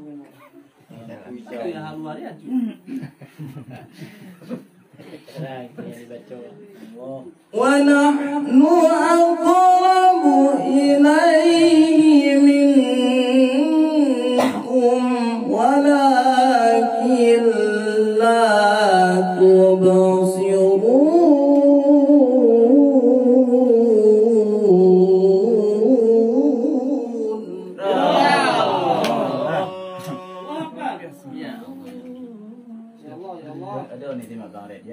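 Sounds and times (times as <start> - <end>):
man reciting melodically into microphone: 5.4 - 27.8, 29.2 - 34.9.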